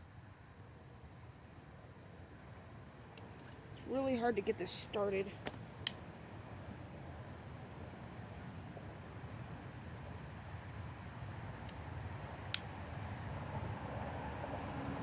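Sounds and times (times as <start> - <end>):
insects trilling: 0.0 - 14.5.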